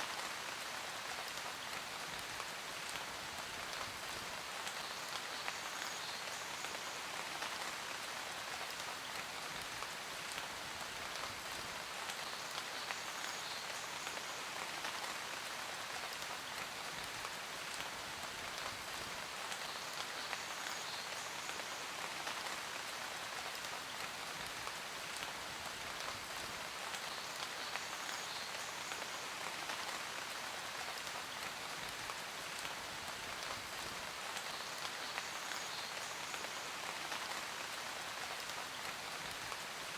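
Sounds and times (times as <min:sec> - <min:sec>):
rain falling on hard surface: 0:00.0 - 0:39.9.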